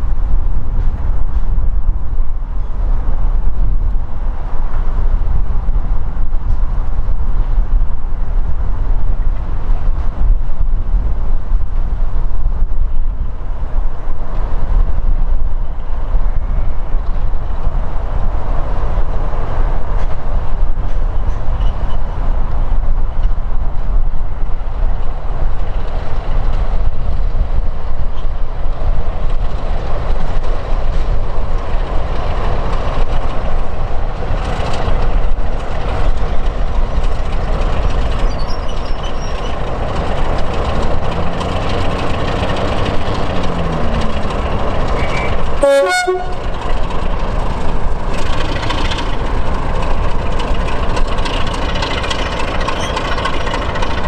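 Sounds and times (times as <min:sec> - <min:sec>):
diesel locomotive engine running: 0:00.0 - 0:54.0
wind rumble on microphone: 0:00.0 - 0:54.0.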